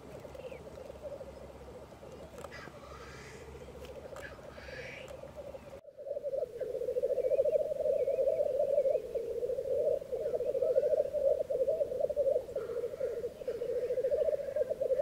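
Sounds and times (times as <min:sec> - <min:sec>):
grouse bubbling cooing chorus: 0:00.0 - 0:15.0.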